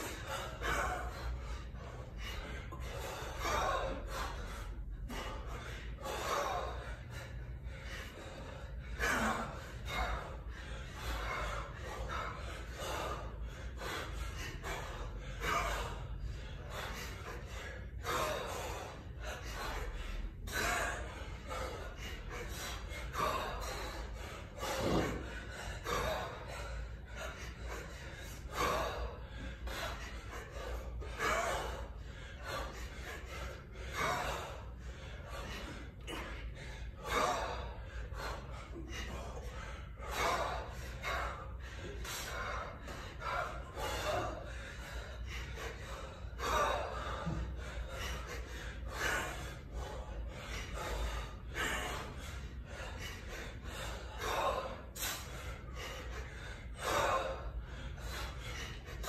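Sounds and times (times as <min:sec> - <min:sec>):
hard rhythmic breathing: 0:00.0 - 0:59.0
steady low hum: 0:00.0 - 0:59.0.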